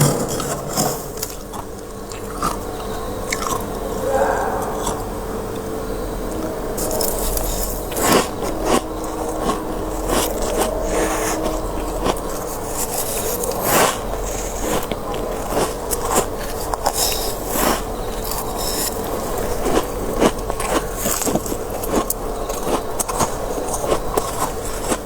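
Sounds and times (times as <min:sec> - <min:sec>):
low steady hum: 0:00.0 - 0:20.5
crunching frost being chewed: 0:00.0 - 0:25.0.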